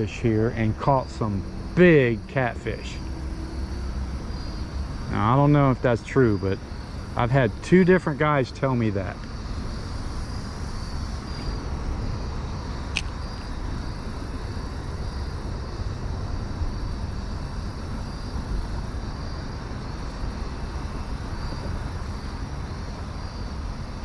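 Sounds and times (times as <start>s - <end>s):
crickets chirping: 0.0s - 24.0s
steady low rumble: 0.0s - 24.0s.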